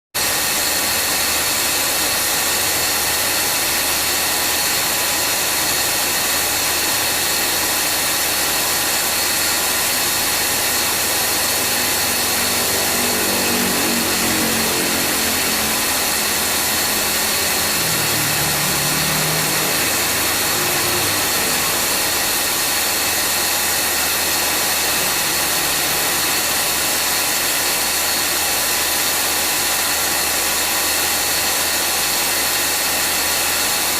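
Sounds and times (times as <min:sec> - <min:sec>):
worn compressor noise with tones: 0:00.3 - 0:29.3
car engine idling: 0:00.6 - 0:30.0.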